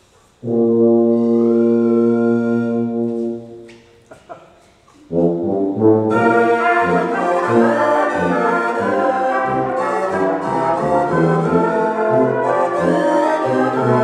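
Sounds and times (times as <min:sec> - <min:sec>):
brass quintet playing ragtime: 0:00.4 - 0:03.8, 0:05.0 - 0:14.0.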